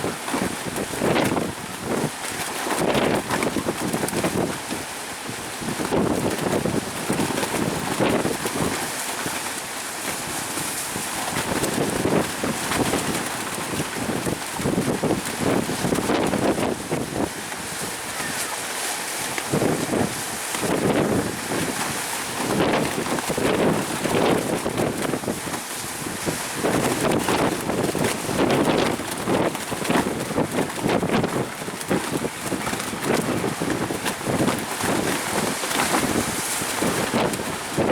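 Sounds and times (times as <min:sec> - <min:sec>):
surf rushing: 0:00.0 - 0:37.9
wind buffeting microphone: 0:00.0 - 0:37.9.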